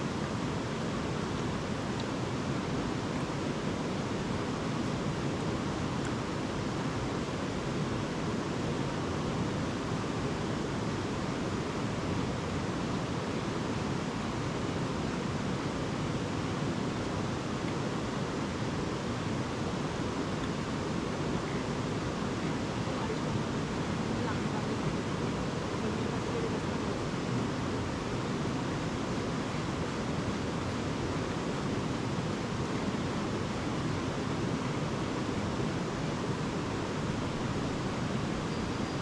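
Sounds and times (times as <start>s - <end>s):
river rushing: 0.0s - 39.0s.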